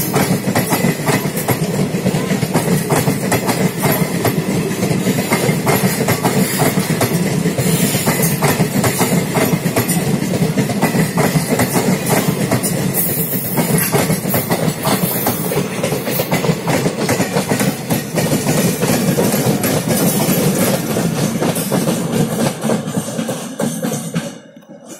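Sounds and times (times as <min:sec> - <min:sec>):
train wheels clattering over rail joints: 0:00.0 - 0:24.6
train rumble: 0:00.0 - 0:24.9.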